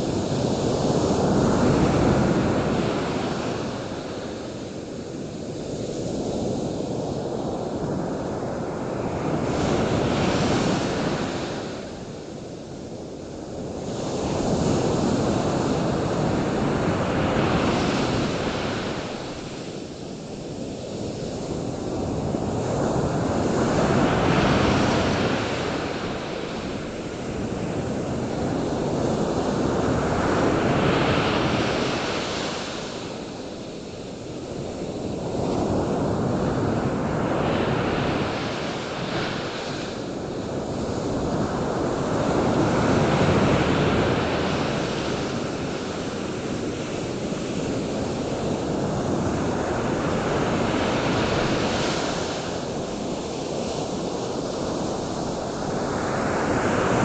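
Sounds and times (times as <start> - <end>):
surf washing ashore: 0.0 - 57.0.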